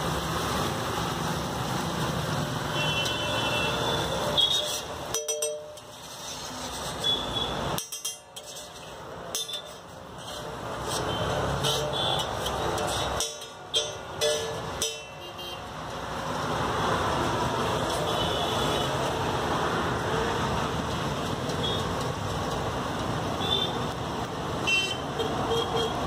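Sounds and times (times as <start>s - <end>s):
passing traffic: 0.0s - 26.0s.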